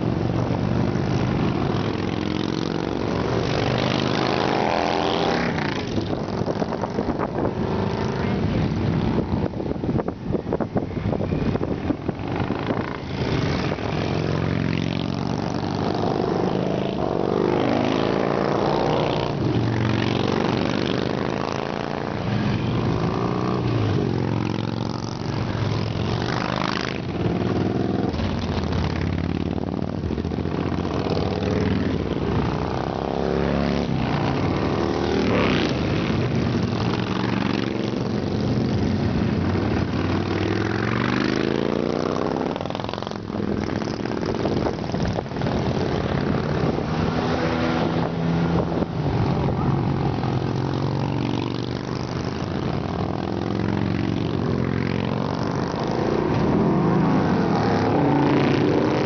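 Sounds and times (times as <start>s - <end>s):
motorcycles riding past: 0.0s - 59.0s.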